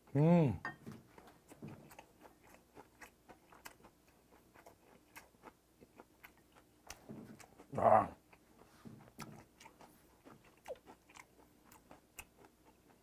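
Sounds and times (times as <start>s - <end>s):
close chewing with wet crunches: 0.8s - 13.0s.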